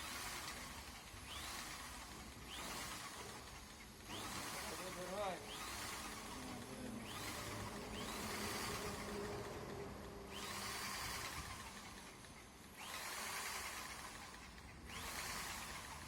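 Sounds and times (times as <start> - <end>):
power tool motor whine: 0.0 - 16.0.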